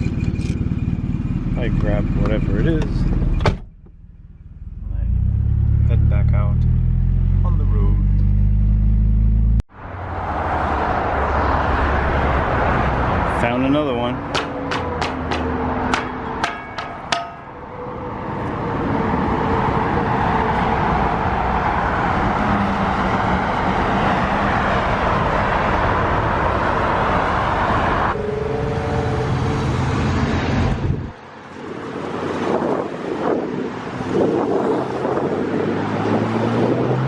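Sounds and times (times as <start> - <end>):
road and traffic noise: 0.0 - 37.0.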